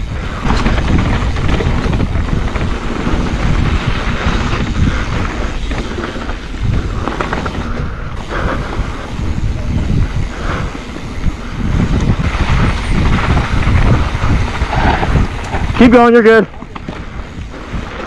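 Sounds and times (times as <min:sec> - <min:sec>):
bike rattling and knocking: 0:00.0 - 0:18.0
bike tyres rumbling over dirt: 0:00.0 - 0:18.0
wind buffeting microphone: 0:00.0 - 0:18.0.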